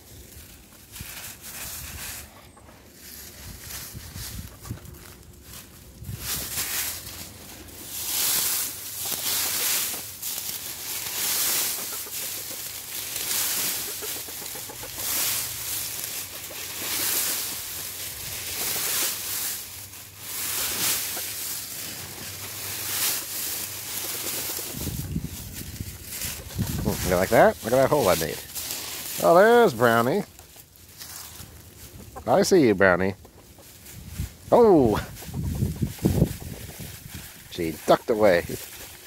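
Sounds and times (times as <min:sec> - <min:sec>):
dry leaves crunching and rustling: 0:00.0 - 0:39.0.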